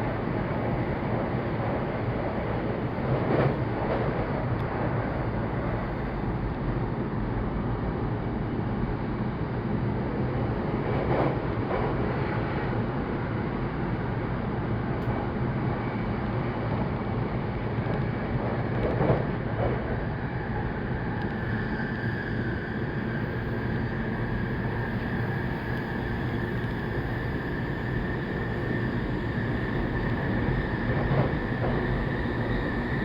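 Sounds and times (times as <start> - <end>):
wheels rushing on rails: 0.0 - 33.0.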